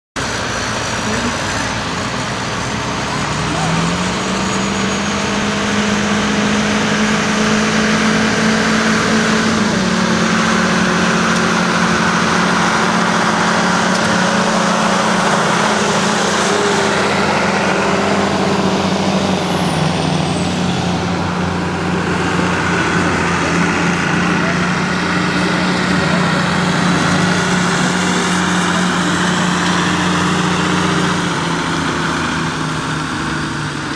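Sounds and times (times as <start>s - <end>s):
truck engine running under load: 0.2s - 33.9s.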